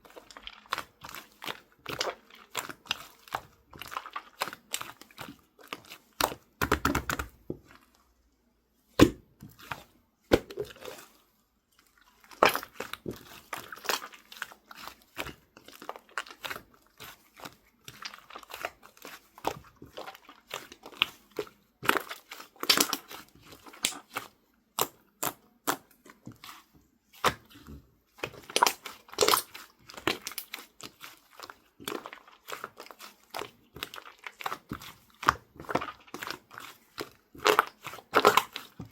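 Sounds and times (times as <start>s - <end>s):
slime squished and stretched: 0.0s - 8.0s, 8.9s - 38.9s.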